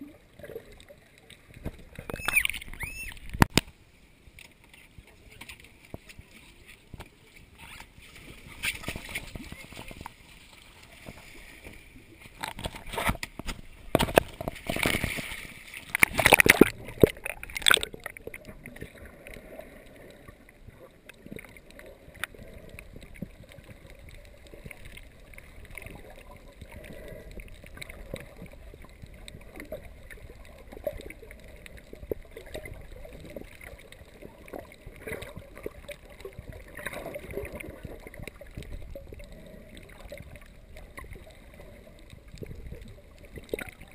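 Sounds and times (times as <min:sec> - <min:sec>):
faint crackling ticks: 0:00.0 - 0:08.0, 0:10.8 - 0:43.9
muffled underwater hiss: 0:00.0 - 0:12.4, 0:13.0 - 0:43.9
water splashing: 0:00.0 - 0:43.9.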